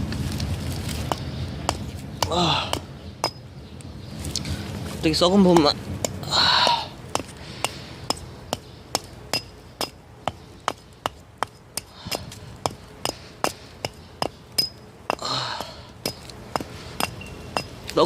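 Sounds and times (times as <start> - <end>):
hatchet striking a log: 1.0 - 3.4, 5.6 - 18.0.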